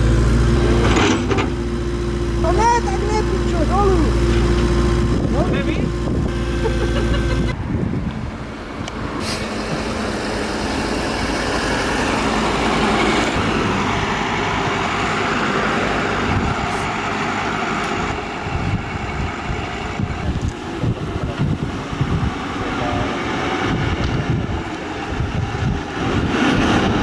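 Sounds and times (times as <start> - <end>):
vehicle engine running: 0.0 - 8.2, 9.5 - 27.0.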